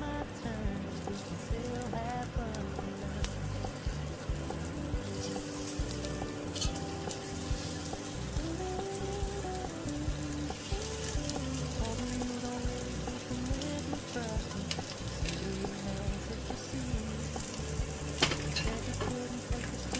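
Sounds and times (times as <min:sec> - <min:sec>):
background music: 0:00.0 - 0:19.9
hot oil sizzling: 0:00.0 - 0:19.9.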